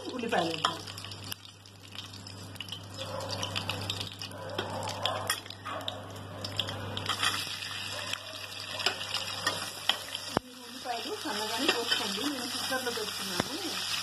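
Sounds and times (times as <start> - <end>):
onions sizzling in hot oil: 0.0 - 4.3, 7.0 - 14.0.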